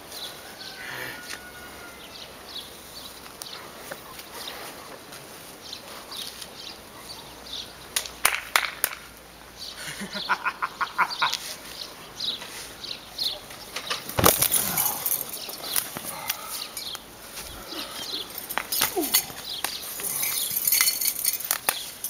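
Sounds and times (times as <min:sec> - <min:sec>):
small birds chirping: 0:00.0 - 0:08.3, 0:09.1 - 0:22.0.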